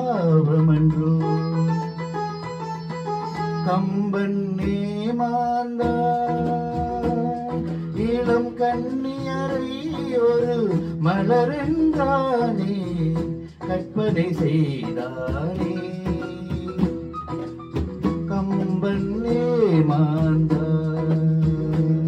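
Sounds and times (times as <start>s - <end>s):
man singing: 0.0s - 2.2s, 3.6s - 22.0s
instrumental backing music: 0.0s - 22.0s
hand drumming on congas: 3.6s - 22.0s.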